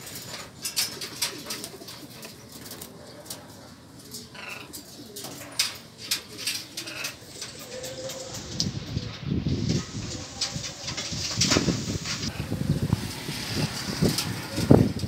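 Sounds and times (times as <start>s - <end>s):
doves cooing: 0.0s - 15.0s
rustles: 0.0s - 15.0s.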